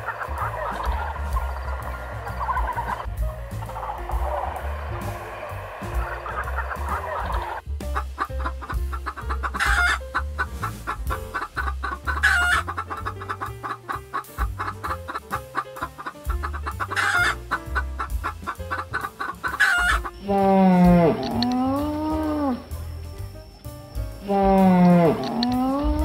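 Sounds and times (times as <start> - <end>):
chickens clucking: 0.0 - 7.6, 8.2 - 22.8
background music with beat: 0.0 - 26.0.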